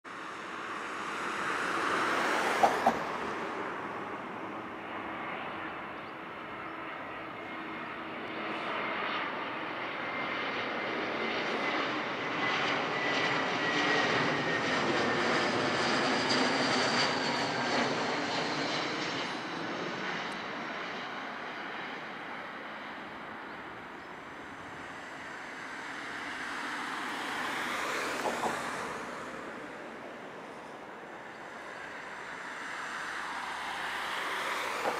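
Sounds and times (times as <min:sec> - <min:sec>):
jet engines roaring: 0:00.1 - 0:34.9.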